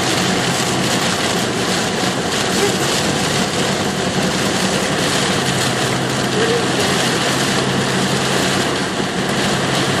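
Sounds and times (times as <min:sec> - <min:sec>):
car engine hum: 0:00.0 - 0:10.0
rain and wet road hiss: 0:00.0 - 0:10.0.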